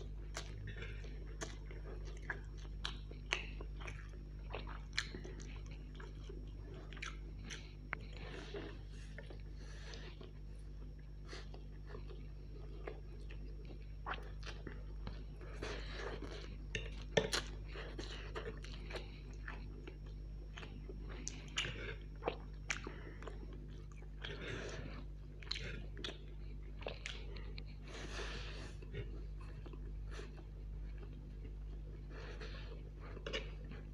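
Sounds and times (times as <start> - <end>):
chewing and slurping noodles: 0.0 - 33.9.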